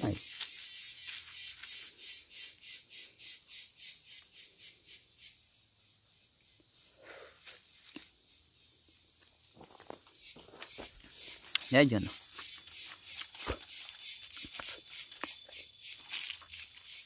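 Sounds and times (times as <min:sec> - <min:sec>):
insect buzzing pulses: 0:00.0 - 0:17.0.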